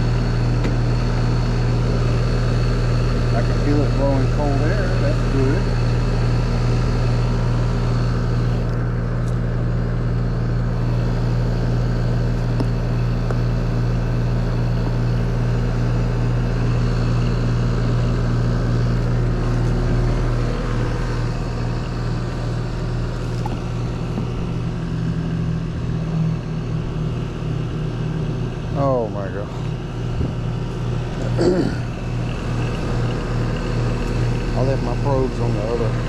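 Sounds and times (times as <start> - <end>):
heat pump compressor and fan hum: 0.0 - 36.0.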